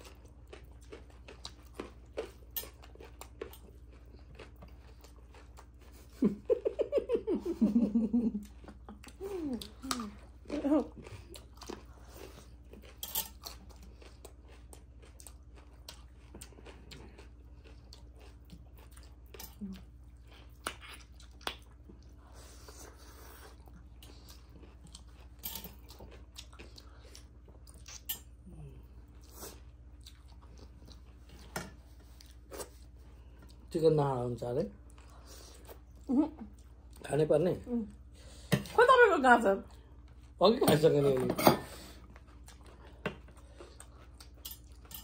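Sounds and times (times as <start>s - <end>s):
chewing food: 0.0s - 7.0s, 8.4s - 37.2s, 42.0s - 45.0s.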